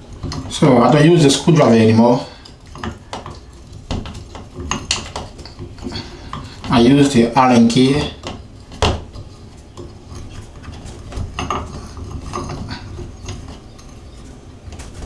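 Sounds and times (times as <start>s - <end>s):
allen key clicking and scraping: 0.0s - 15.0s.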